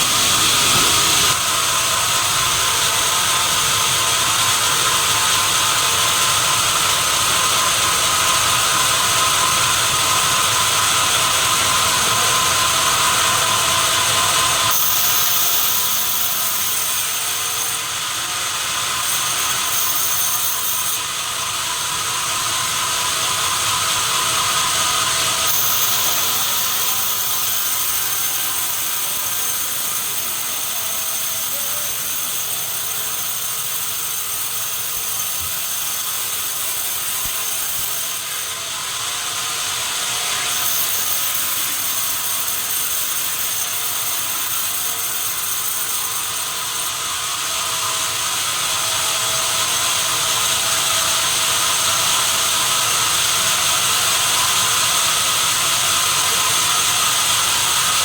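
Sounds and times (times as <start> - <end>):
sawmill machinery hissing: 0.0 - 58.0.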